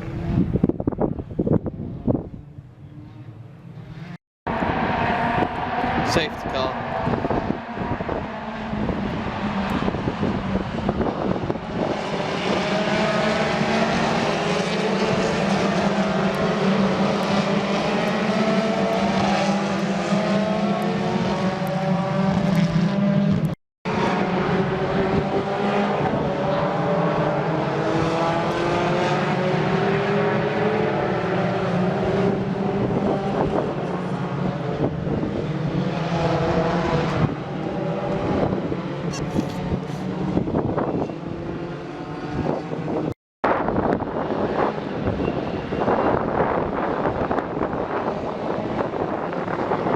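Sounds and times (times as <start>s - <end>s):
racing car engines accelerating: 0.0s - 49.9s.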